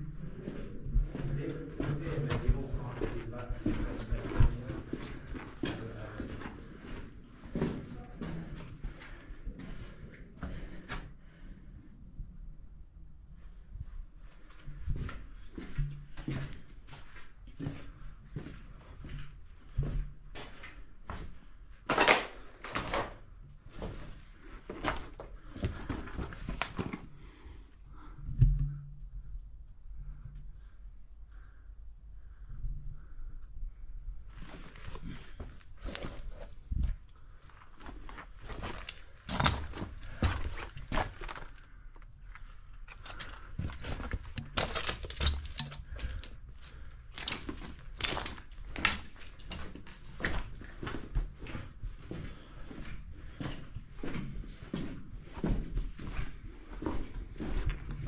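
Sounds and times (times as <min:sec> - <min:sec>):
footsteps on gritty floor: 0:00.3 - 0:11.0, 0:14.9 - 0:27.4, 0:34.4 - 0:58.0.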